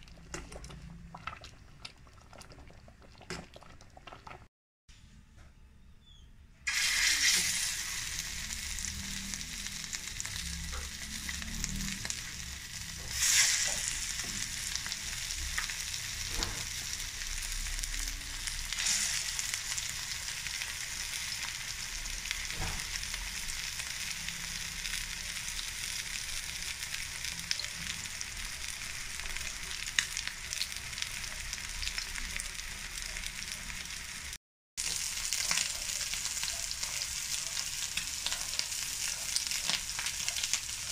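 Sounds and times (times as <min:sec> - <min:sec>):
meat sizzling in a frying pan: 0:06.7 - 0:40.9.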